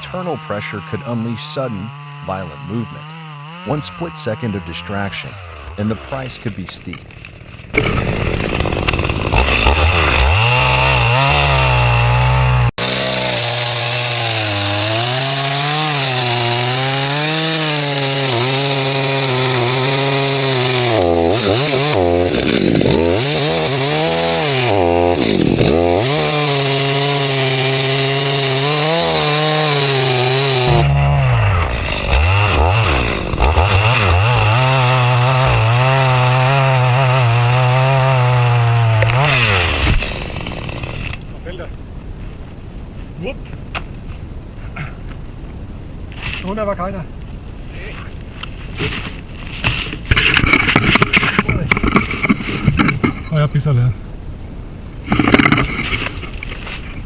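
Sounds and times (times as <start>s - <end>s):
chainsaw cutting wood: 0.0s - 41.4s, 48.4s - 53.3s, 55.0s - 57.0s.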